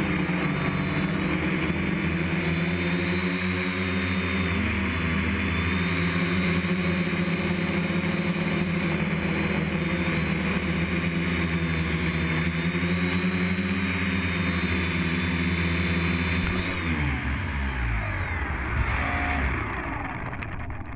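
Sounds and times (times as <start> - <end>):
drone motors and propellers: 0.0 - 20.9.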